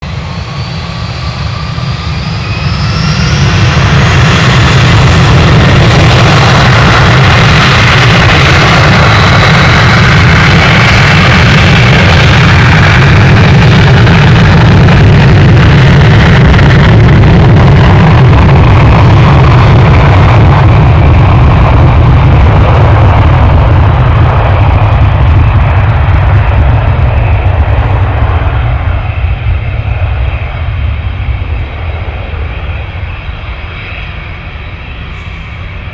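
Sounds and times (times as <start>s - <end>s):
jet engine rumble: 0.0s - 35.9s.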